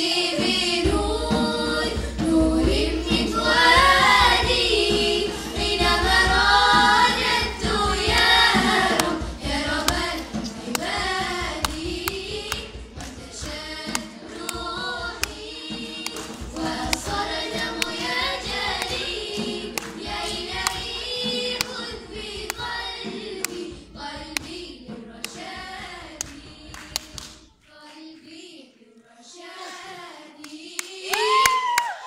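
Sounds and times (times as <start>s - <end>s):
girls' choir singing: 0.0s - 31.4s
hand drum strokes: 0.3s - 27.4s.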